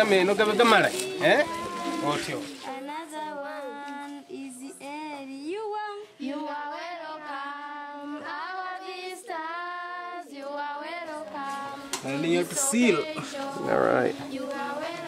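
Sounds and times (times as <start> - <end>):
high voices singing: 0.0 - 15.0.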